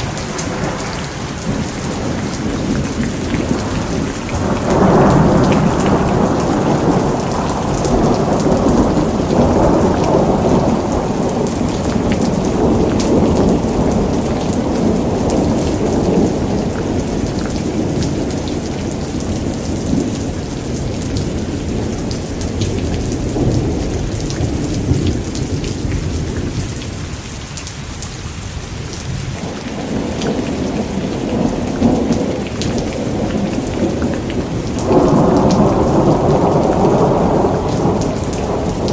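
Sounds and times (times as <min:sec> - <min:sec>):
rolling thunder: 0:00.0 - 0:27.1, 0:28.6 - 0:38.9
steady rain: 0:00.0 - 0:38.9.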